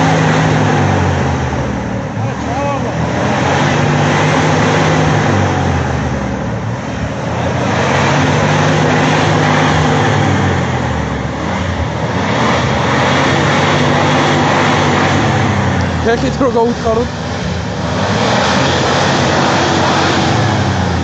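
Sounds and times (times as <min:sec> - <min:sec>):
car engine running under load: 0:00.0 - 0:21.0.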